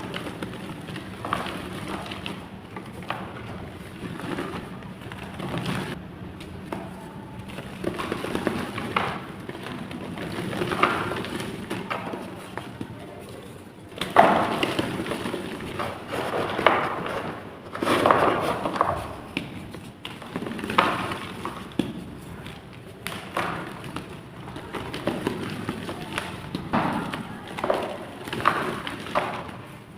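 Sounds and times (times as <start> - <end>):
clay blocks crunching and crumbling: 0.0 - 29.9.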